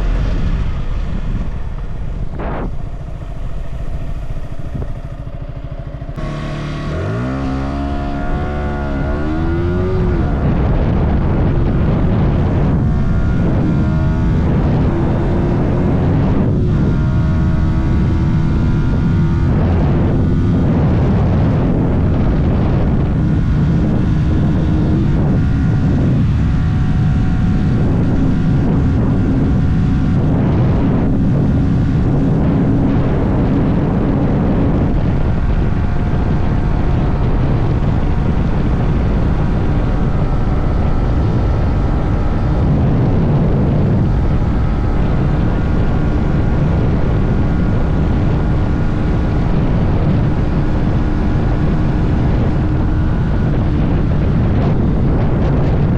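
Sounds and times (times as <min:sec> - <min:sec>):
motorcycle engine running: 0:00.0 - 0:55.9
wind noise: 0:00.0 - 0:55.9.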